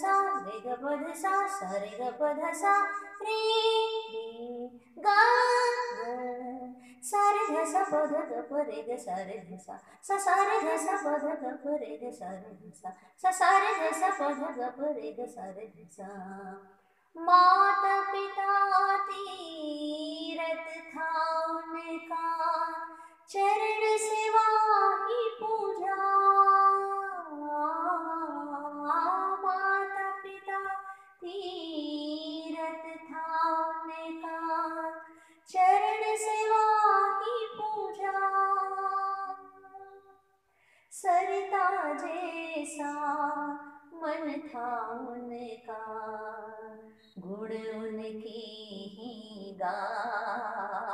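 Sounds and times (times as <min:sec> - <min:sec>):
woman singing unaccompanied: 0:00.0 - 0:40.1, 0:40.9 - 0:50.9.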